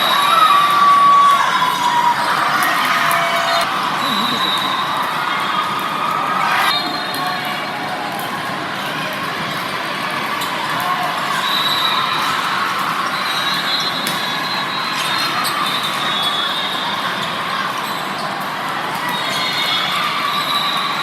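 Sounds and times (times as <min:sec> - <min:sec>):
crowd chatter echoing: 0:00.0 - 0:21.0.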